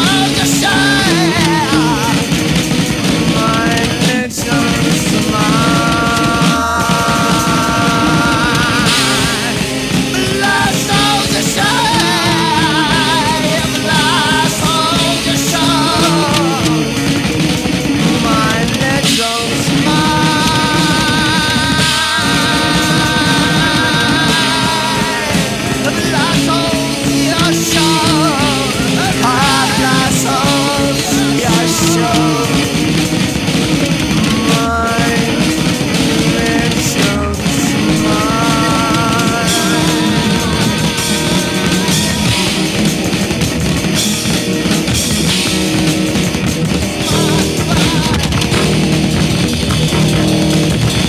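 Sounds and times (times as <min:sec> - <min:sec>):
rock music: 0:00.0 - 0:51.0.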